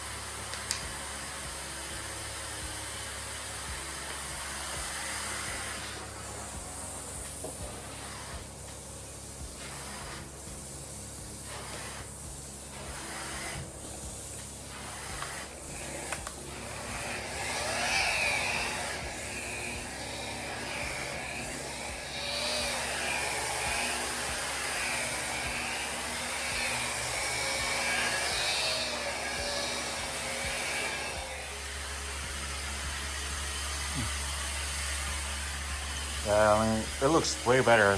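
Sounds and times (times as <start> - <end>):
polishing machine whining on stone: 0.0 - 37.9.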